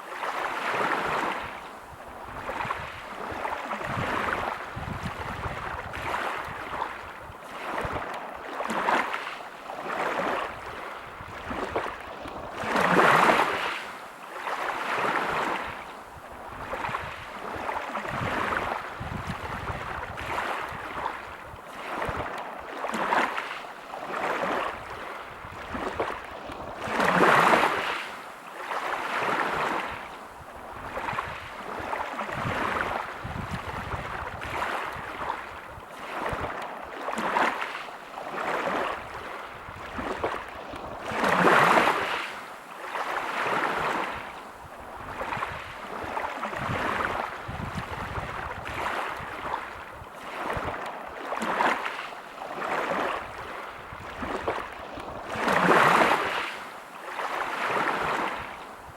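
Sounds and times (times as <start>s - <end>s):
waves breaking on pebble beach: 0.0s - 1.6s, 2.4s - 15.8s, 16.6s - 30.0s, 30.8s - 44.3s, 45.0s - 58.9s.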